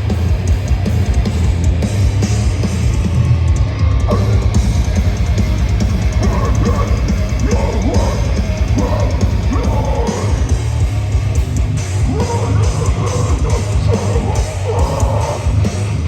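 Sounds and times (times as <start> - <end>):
heavy metal band playing live: 0.0 - 16.0
rapid pounding kick drum: 0.0 - 16.0.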